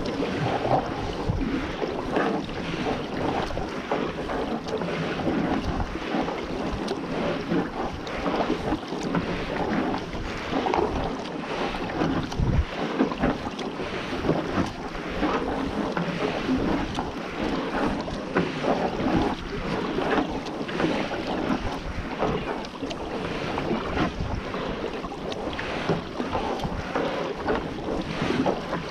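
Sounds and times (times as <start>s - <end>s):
paddle strokes splashing: 0.0s - 28.9s
water lapping at kayak hull: 0.0s - 28.9s
wind buffeting microphone: 0.0s - 28.9s.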